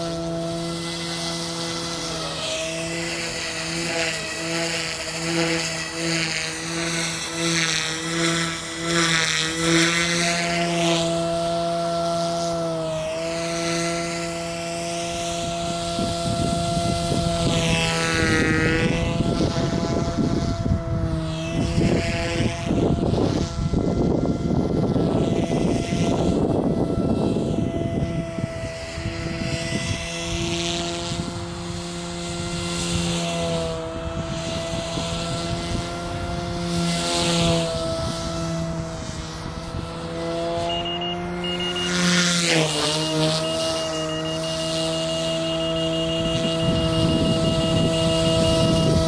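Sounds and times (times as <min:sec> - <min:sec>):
rc helicopter rotor whine: 0:00.0 - 0:49.0.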